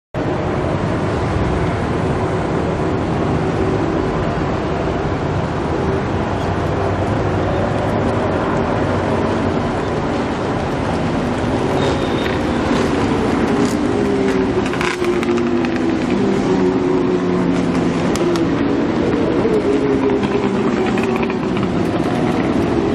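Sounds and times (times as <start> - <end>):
supercar engines revving: 0.2 - 22.9.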